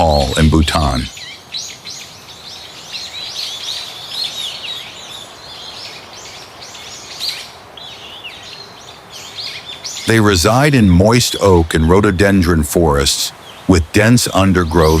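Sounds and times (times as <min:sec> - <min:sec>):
faint steady hiss: 0:00.0 - 0:15.0
small birds chirping: 0:00.0 - 0:15.0.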